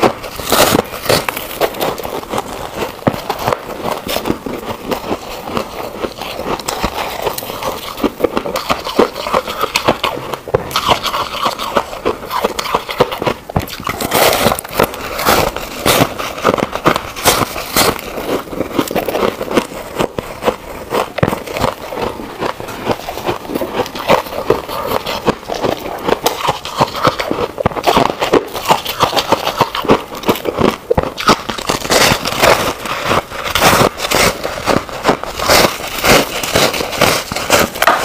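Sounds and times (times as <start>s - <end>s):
crunching and chewing ice: 0.0s - 38.0s.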